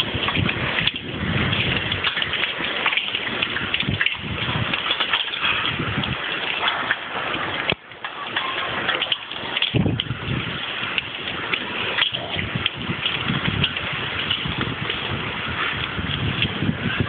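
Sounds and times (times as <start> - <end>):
hail and rain pelting ground: 0.0 - 17.0
wind rumbling on microphone: 0.0 - 17.0.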